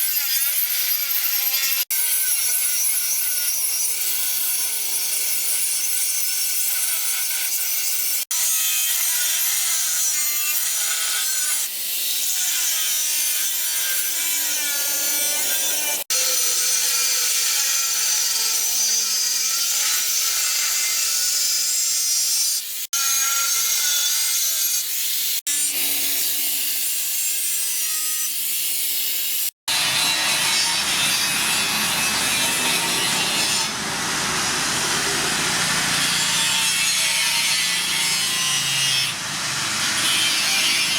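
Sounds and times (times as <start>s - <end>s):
power grinder on steel blade: 0.0s - 40.9s.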